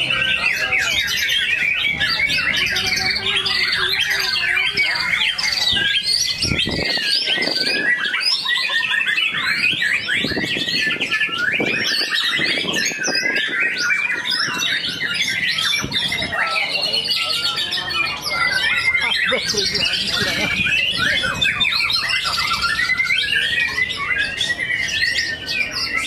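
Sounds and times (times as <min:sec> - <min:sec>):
birds singing trills and whistles: 0:00.0 - 0:26.0.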